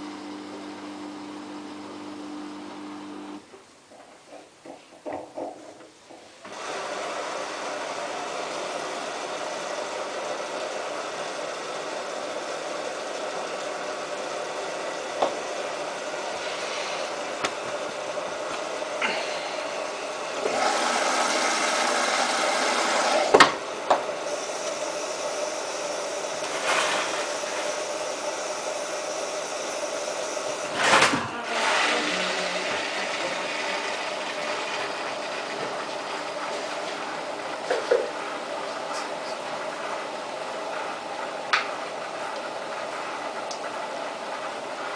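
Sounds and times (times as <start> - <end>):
washing machine humming: 0.0 - 44.9
washing machine hissing: 6.3 - 44.9.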